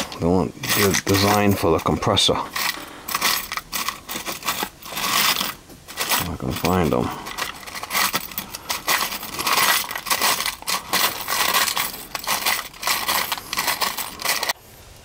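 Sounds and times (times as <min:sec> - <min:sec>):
metal terminals clinking in plastic: 0:00.0 - 0:14.6.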